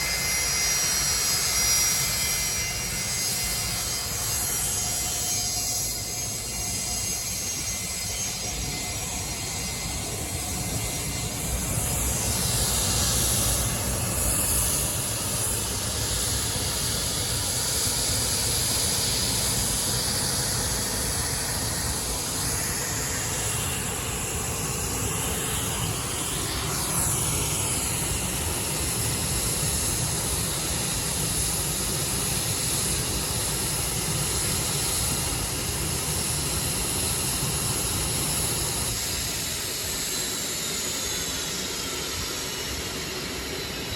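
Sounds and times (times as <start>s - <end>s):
jet engine whine: 0.0s - 43.9s
jet engines roaring: 0.0s - 43.9s.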